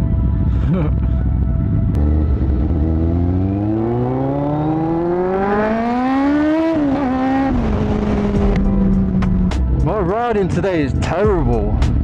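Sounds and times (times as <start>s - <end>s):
motorcycle engine accelerating: 0.0s - 10.2s.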